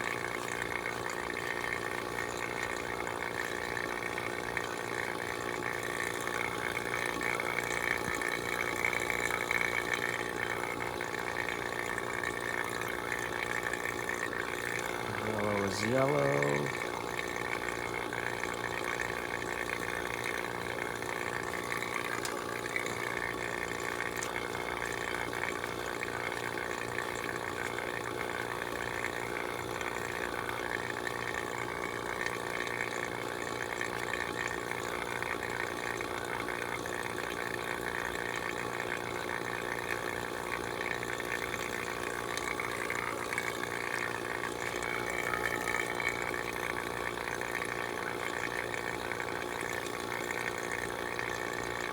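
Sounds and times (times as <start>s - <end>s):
vacuum pump motor humming: 0.0s - 51.9s.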